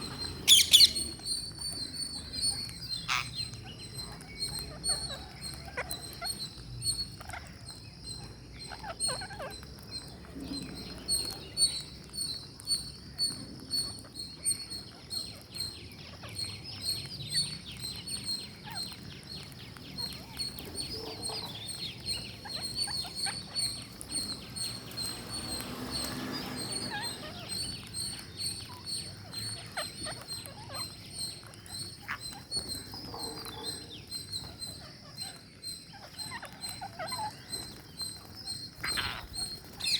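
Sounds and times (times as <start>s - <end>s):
parakeets chirping: 0.0s - 39.9s.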